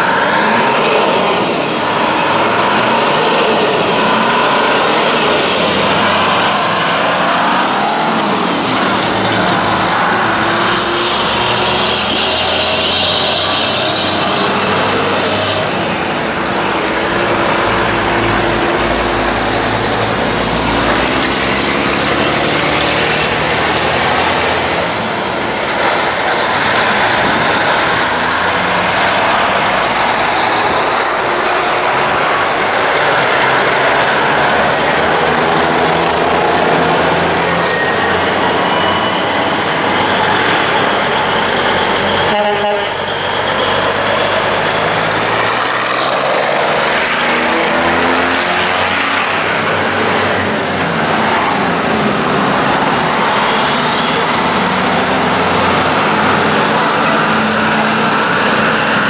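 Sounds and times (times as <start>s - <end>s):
diesel trucks driving past: 0.0s - 59.0s
heavy tyres on pavement: 0.0s - 59.0s.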